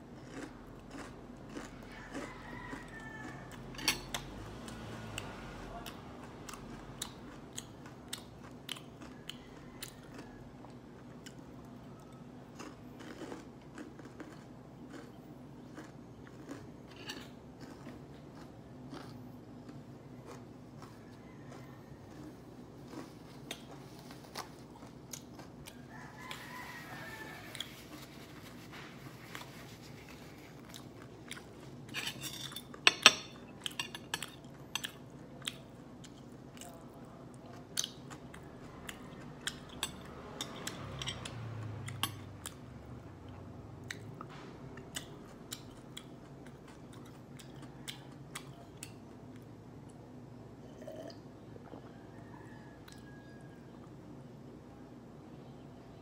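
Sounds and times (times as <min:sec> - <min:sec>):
chewing and crunching: 0:00.0 - 0:50.1, 0:50.7 - 0:54.0.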